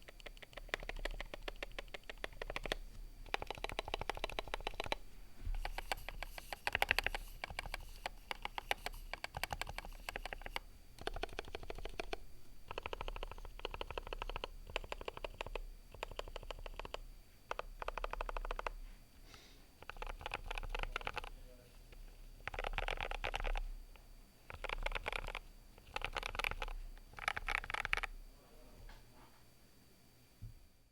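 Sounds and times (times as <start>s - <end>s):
mechanical keyboard typing: 0.0s - 18.8s, 19.8s - 23.7s, 24.4s - 28.2s.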